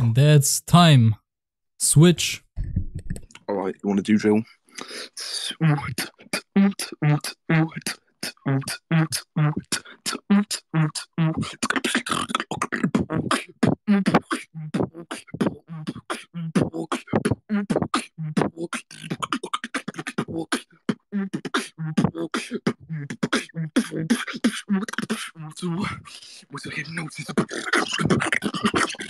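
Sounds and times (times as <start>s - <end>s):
beatboxing: 4.7s - 29.0s.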